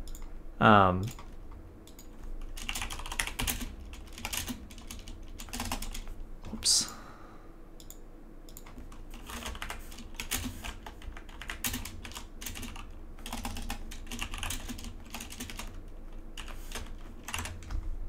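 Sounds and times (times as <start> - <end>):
computer keyboard typing: 1.0 - 6.1, 7.8 - 17.9.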